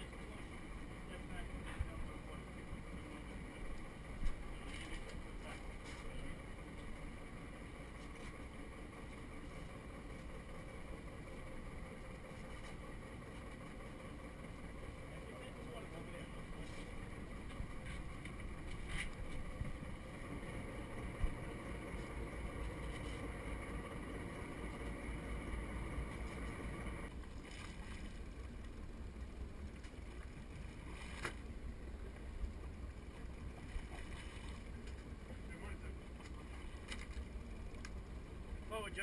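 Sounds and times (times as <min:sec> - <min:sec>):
boat engine idling: 0:00.0 - 0:39.0.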